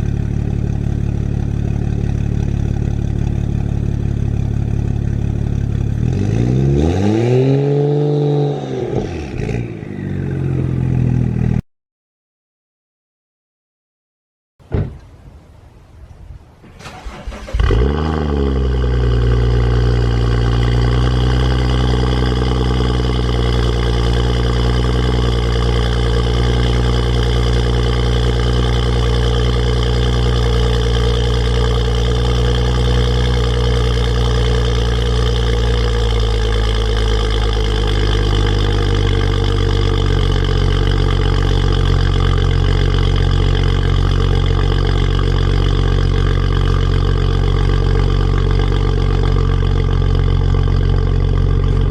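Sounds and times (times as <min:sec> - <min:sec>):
car engine cold start and idle: 0:00.0 - 0:08.0, 0:16.6 - 0:51.9.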